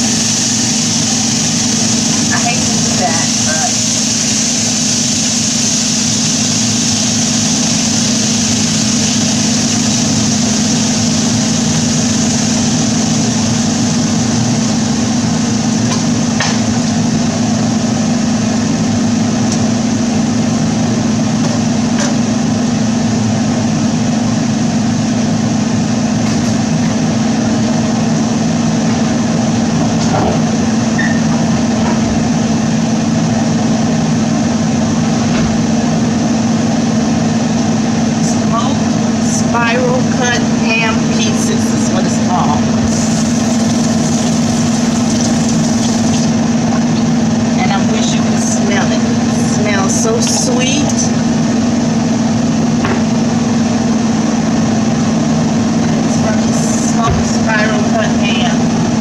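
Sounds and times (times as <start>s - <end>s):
kitchen fan humming: 0.0s - 59.0s.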